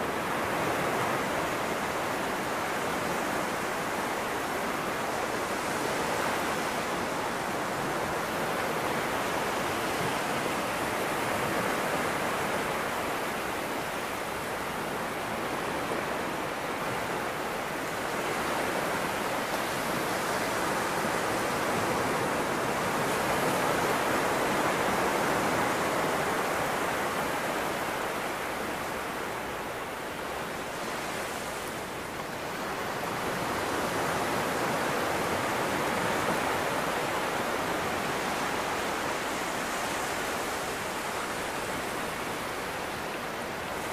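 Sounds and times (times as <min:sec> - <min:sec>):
small waves breaking on beach: 0:00.0 - 0:43.9.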